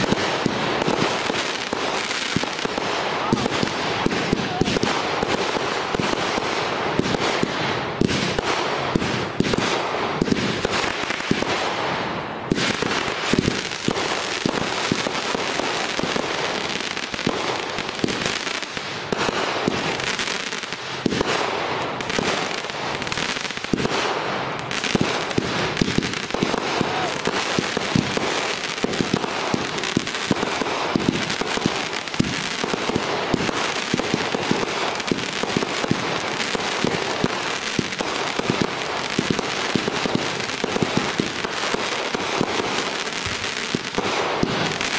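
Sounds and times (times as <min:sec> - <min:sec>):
fireworks bangs: 0:00.0 - 0:44.9
fireworks crackle: 0:00.0 - 0:44.9.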